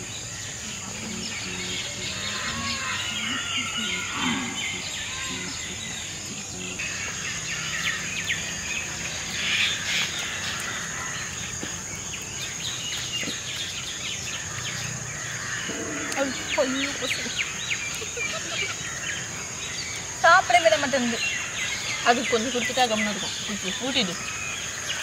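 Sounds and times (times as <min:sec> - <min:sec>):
high-pitched insect drone: 0:00.0 - 0:11.4, 0:14.3 - 0:25.0
birds chirping and calling: 0:00.0 - 0:25.0.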